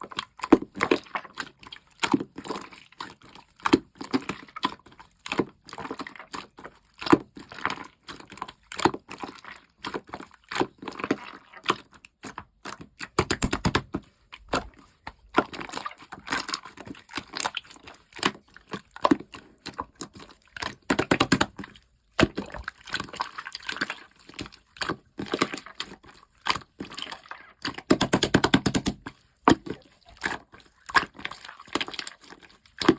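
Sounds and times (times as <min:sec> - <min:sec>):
slime squishing: 0:00.0 - 0:32.9.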